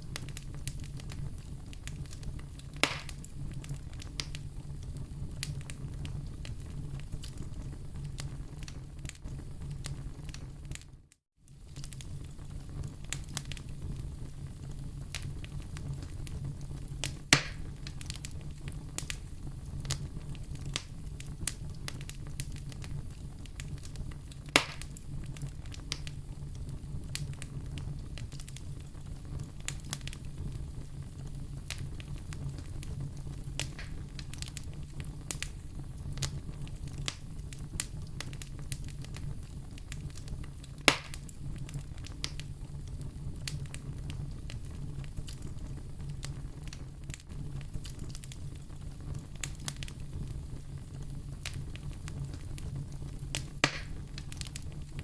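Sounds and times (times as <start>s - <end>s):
loud fire pops: 0.0s - 10.9s, 11.5s - 55.0s
wood fire crackling: 0.0s - 55.0s.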